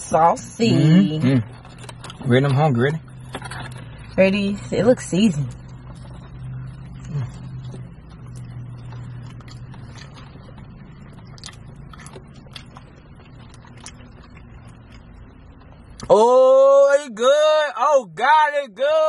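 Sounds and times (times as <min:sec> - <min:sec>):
steady low hum: 0:00.0 - 0:19.0
people chewing sandwiches: 0:00.3 - 0:16.9.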